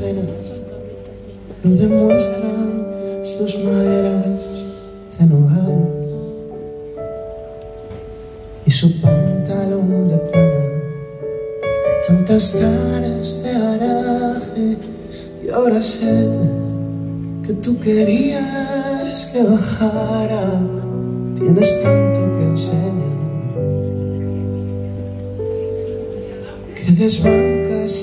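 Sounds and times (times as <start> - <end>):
man singing: 0.0 - 0.9, 1.6 - 6.5, 8.6 - 24.6, 26.4 - 28.0
held keyboard chords: 0.0 - 28.0.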